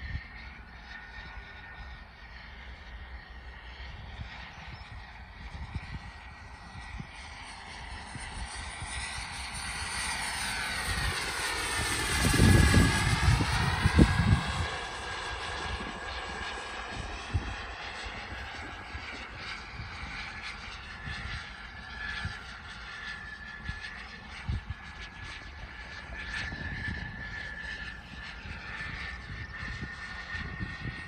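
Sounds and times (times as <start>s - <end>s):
model jet whine and rush: 0.0s - 31.0s.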